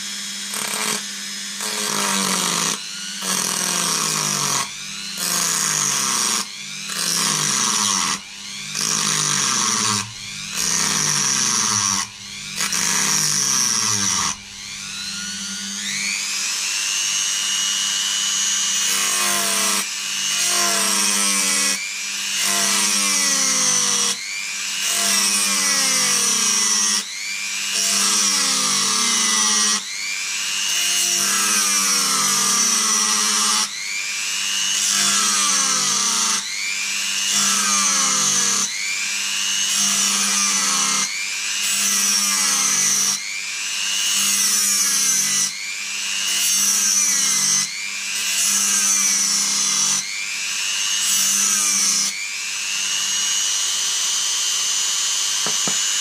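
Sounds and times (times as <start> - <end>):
rotary tool grinding metal: 0.0 - 56.0.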